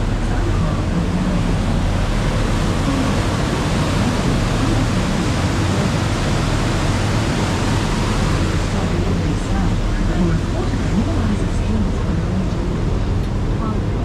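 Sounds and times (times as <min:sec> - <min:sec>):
low boat engine drone: 0:00.0 - 0:14.0
rushing water noise: 0:00.0 - 0:14.0.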